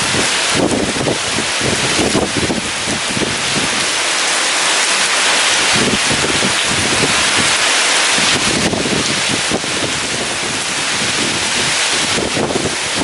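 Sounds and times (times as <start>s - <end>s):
heavy rain pouring: 0.0s - 13.0s
wind buffeting microphone: 0.0s - 13.0s.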